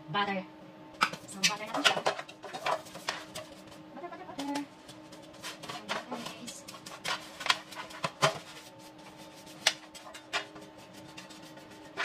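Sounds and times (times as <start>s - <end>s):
pastry brush scraping and tapping pan: 1.4s - 3.8s, 4.4s - 12.0s.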